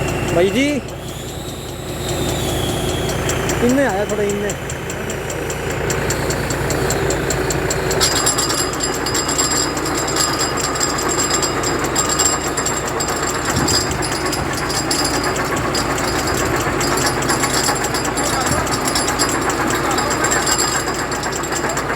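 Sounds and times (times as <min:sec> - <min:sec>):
diesel engine chugging: 0:00.0 - 0:21.9
flour mill grinding hiss: 0:00.0 - 0:21.9.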